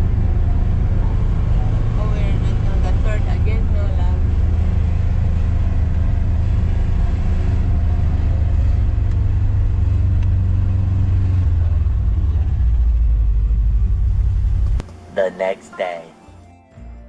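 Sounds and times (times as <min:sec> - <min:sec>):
vehicle engine and road rumble: 0:00.0 - 0:16.9.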